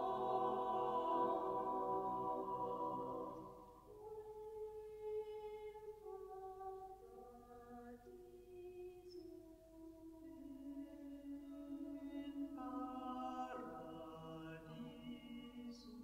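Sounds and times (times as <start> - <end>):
choir singing softly: 0.0 - 16.0.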